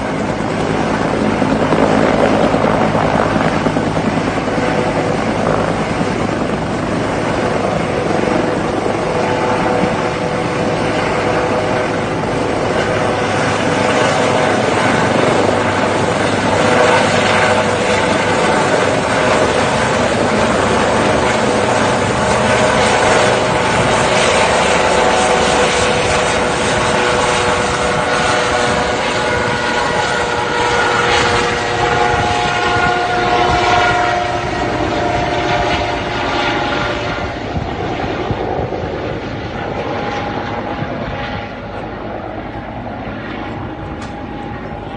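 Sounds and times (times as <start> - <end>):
helicopter rotor and engine: 0.0 - 44.9.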